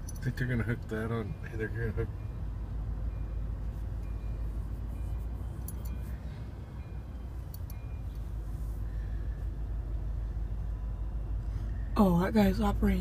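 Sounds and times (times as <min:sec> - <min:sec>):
diesel locomotive rumbling: 0:00.0 - 0:13.0.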